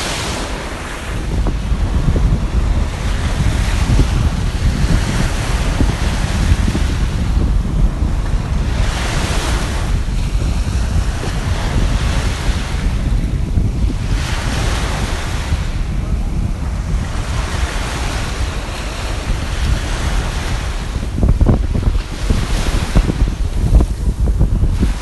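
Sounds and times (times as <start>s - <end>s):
sea waves washing in: 0.0s - 25.0s
wind buffeting microphone: 0.0s - 25.0s.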